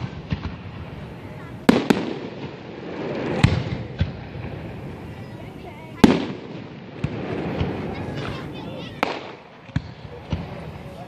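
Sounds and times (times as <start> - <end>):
firework shells bursting: 0.0 - 10.9.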